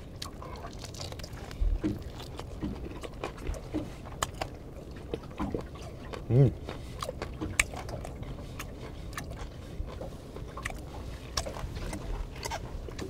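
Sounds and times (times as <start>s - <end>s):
person chewing: 0.0s - 4.6s, 6.0s - 13.0s.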